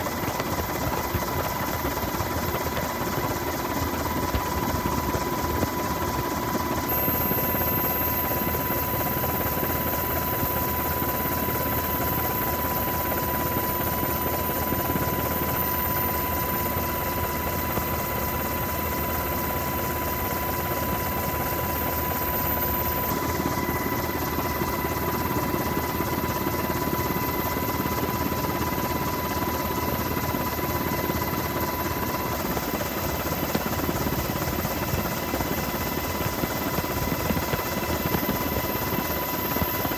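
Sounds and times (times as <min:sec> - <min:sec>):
aircraft rotors and engine whirring: 0:00.0 - 0:39.9.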